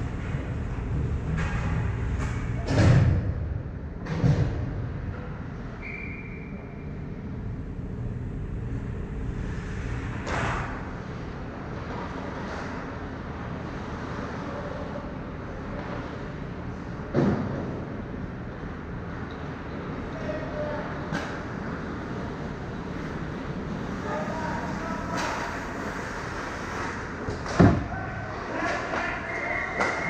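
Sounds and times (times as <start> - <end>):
low arena rumble: 0.0 - 30.0.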